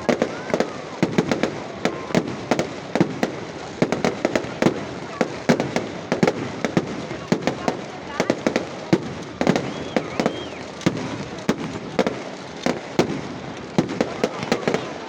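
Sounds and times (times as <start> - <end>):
firecrackers popping and banging: 0.0 - 15.0
steady crackling hiss: 0.0 - 15.0.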